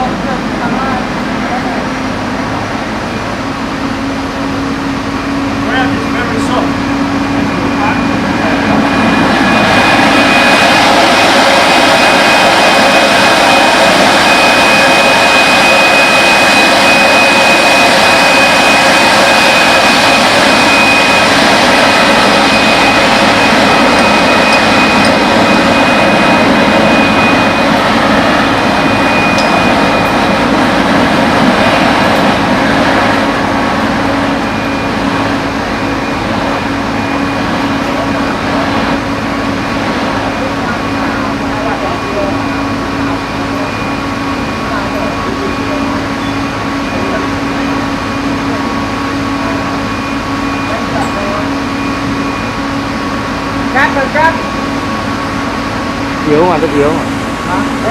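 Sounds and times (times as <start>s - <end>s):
drill rig machinery noise: 0.0s - 57.9s
steady high whine: 0.0s - 57.9s.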